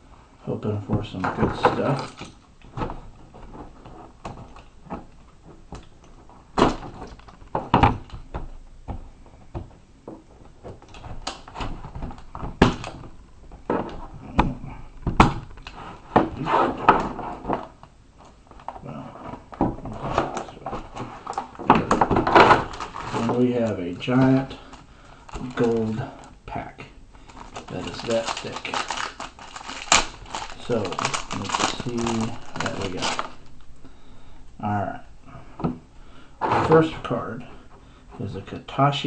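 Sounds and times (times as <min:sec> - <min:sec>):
cardboard rustling: 0:00.9 - 0:34.1.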